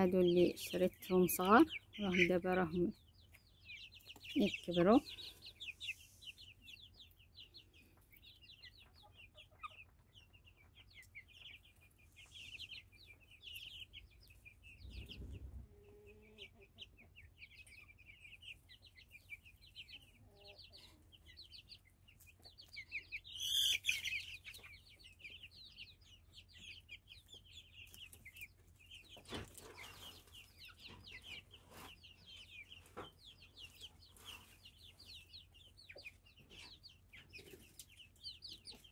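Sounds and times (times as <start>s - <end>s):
chickens chirping and clucking: 0.0s - 38.9s.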